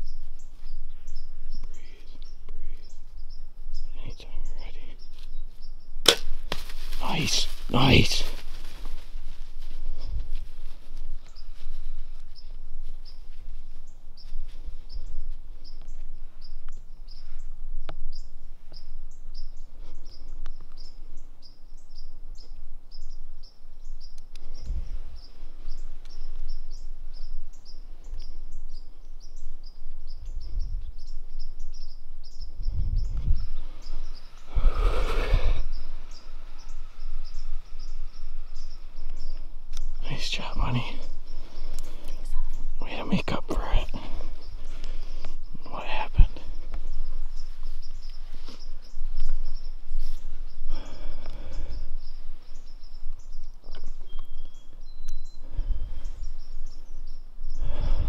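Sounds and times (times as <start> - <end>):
insect chirping: 0.0 - 58.0
rustle: 0.0 - 58.0.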